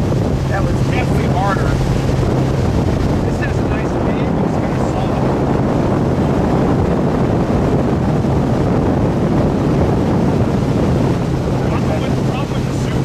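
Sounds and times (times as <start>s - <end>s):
motorboat engine drone: 0.0s - 13.0s
rushing water from wake: 0.0s - 13.0s
wind buffeting microphone: 0.0s - 13.0s.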